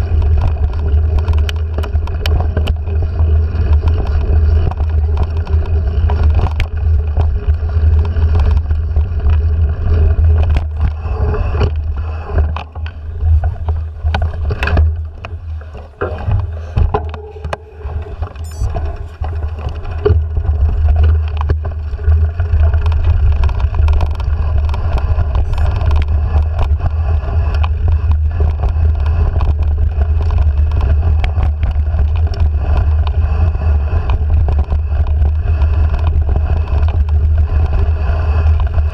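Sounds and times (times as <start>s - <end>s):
bike rattles and knocks: 0.0s - 38.9s.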